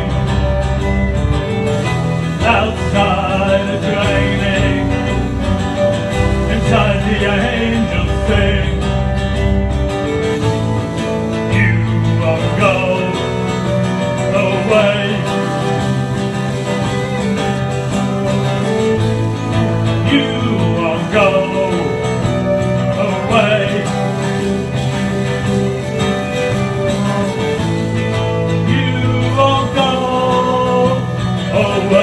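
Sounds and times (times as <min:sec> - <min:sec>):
electric guitars and bass: 0:00.0 - 0:32.0
violin sliding melody: 0:00.0 - 0:32.0.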